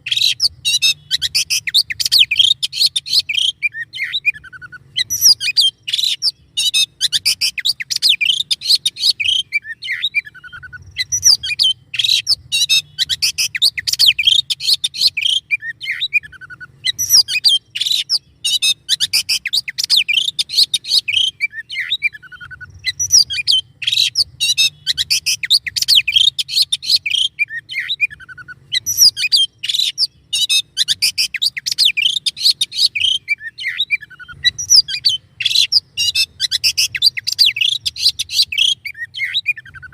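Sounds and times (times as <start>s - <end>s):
faint low hum: 0.0s - 39.9s
songbird chattering song: 0.0s - 39.9s.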